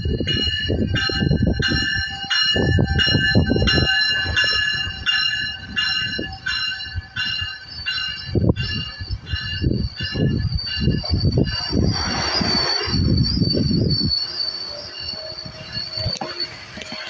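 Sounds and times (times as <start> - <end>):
train warning bell ringing: 0.0 - 17.0
train wheels rumbling and clattering: 0.0 - 17.0.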